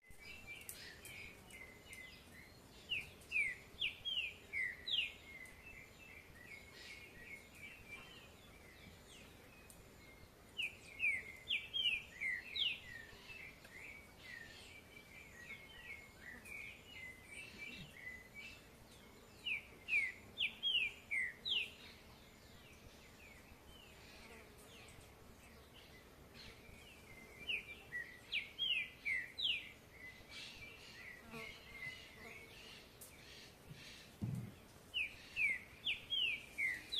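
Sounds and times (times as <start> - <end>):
soft bird chirping: 0.0 - 36.9
songbird singing: 0.0 - 36.9.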